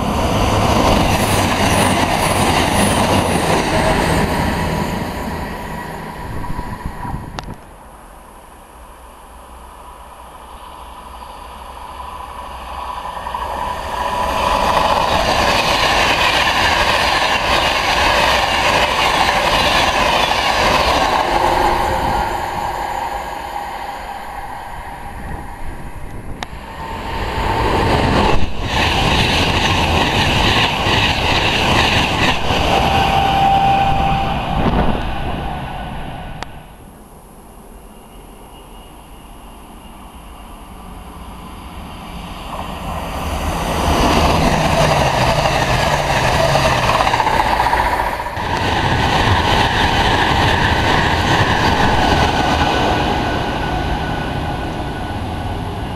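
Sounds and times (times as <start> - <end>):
train rushing past: 0.0 - 7.9, 9.4 - 37.3, 37.9 - 55.9.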